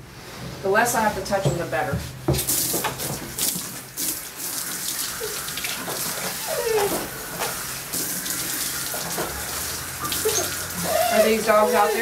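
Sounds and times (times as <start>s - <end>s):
hose water spraying: 2.1s - 12.0s.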